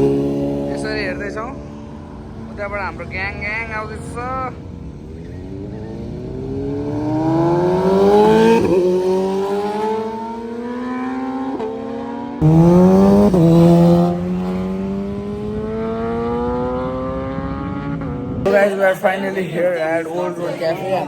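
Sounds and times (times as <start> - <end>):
louder motorcycle: 0.0 - 19.2
motorcycle engines accelerating: 0.0 - 21.0.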